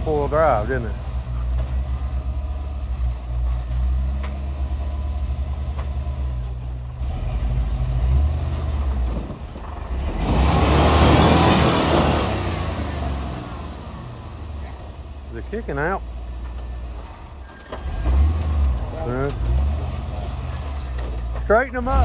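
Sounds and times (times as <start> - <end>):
vehicle engine running low: 0.0 - 22.0.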